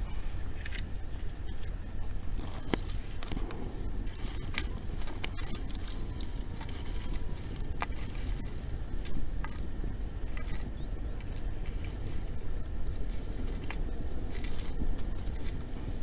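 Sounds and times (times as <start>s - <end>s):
bonfire crackling and popping: 0.0s - 16.0s
low rumble: 0.0s - 16.0s.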